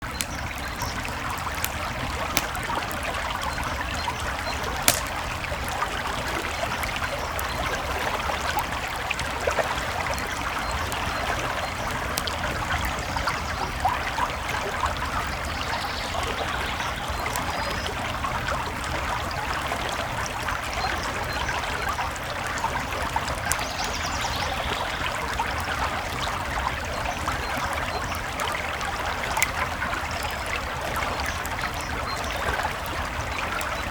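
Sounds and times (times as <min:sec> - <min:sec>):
campfire crackling and popping: 0:00.0 - 0:15.6, 0:20.0 - 0:33.9
creek water flowing: 0:00.0 - 0:33.9.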